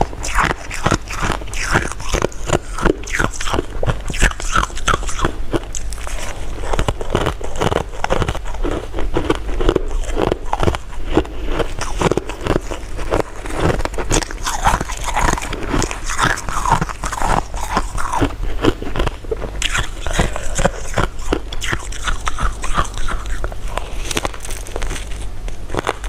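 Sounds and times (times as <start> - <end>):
person chewing sweets: 0.0 - 26.0.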